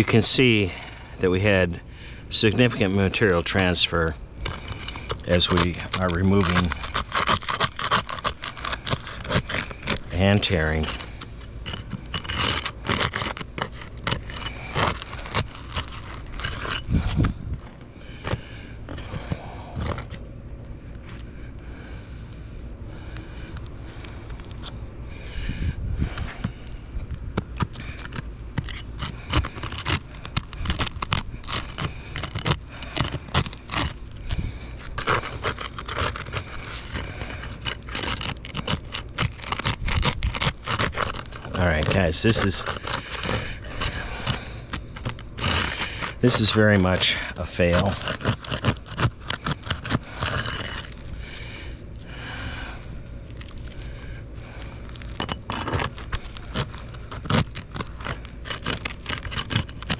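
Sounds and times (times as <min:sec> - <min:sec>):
roof shingle tearing and scraping: 0:00.0 - 0:22.0, 0:22.9 - 0:59.9.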